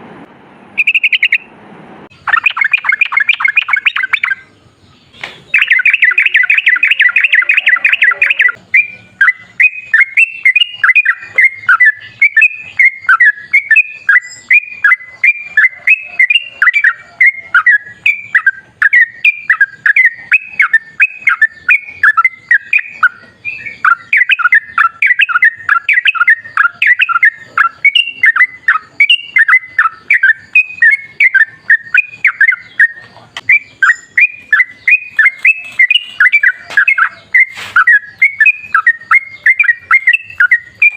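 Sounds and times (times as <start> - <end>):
bird chattering song: 0.8 - 1.5, 2.1 - 40.9.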